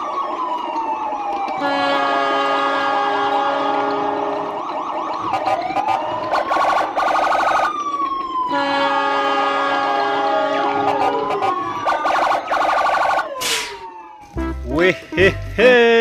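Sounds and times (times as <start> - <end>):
fast warbling siren: 0.0 - 14.4
steady held siren tone: 0.0 - 14.4
sirens wailing: 0.0 - 16.0.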